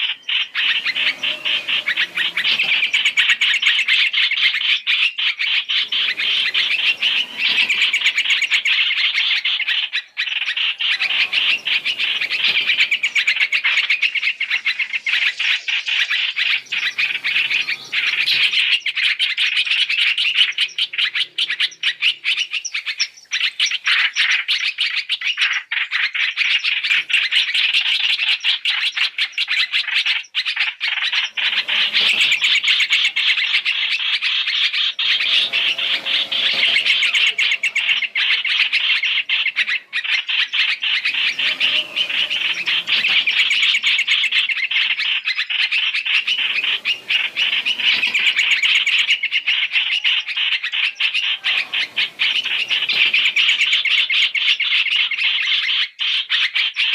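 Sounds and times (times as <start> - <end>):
bird chirping and chattering: 0.0 - 56.9.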